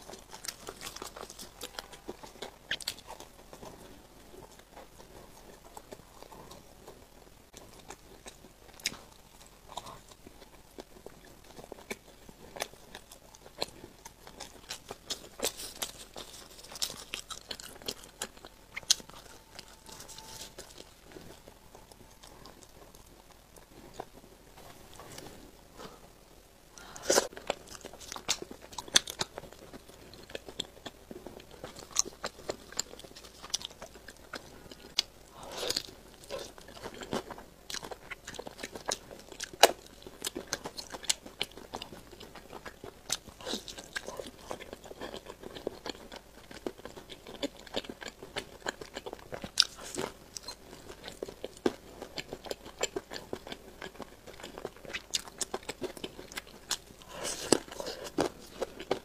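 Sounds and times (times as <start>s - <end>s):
crunching fried chicken: 0.0s - 25.3s, 26.8s - 59.0s.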